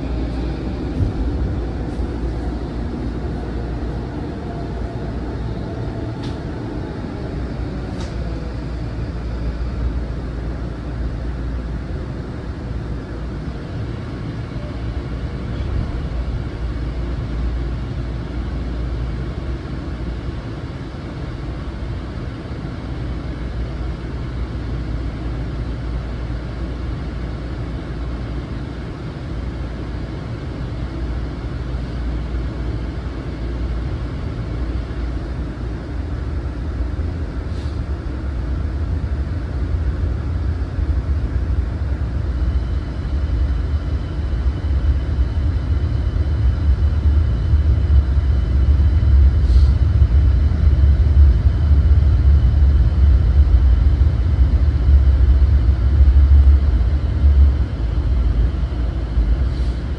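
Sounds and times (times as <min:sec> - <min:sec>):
train rumble from inside: 0:00.0 - 0:59.9.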